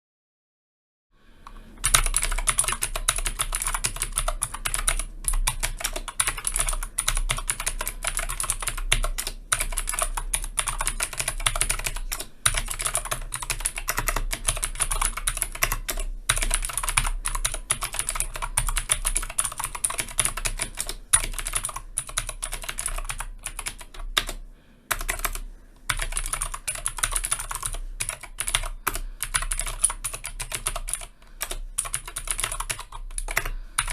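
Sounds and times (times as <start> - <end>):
fast typing on mechanical keyboard: 1.8 - 33.9.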